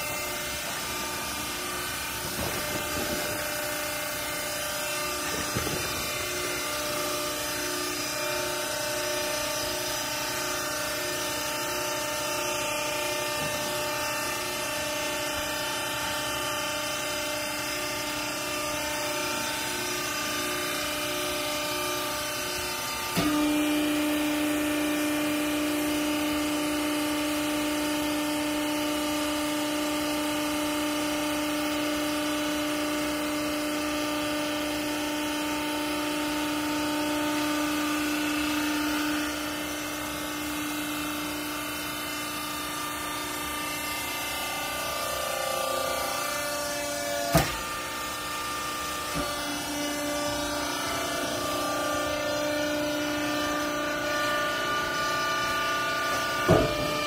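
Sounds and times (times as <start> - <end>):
hydraulic power unit humming: 0.0 - 57.0.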